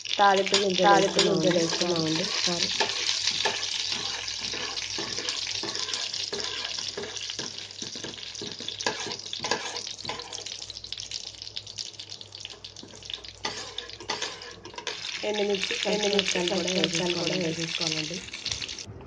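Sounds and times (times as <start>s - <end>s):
food sizzling in hot oil: 0.0s - 18.9s.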